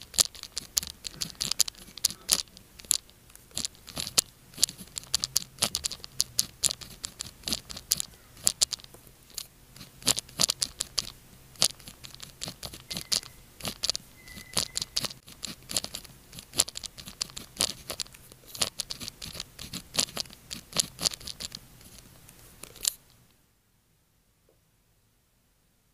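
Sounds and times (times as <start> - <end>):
pen nib scratching on paper: 0.0 - 22.9.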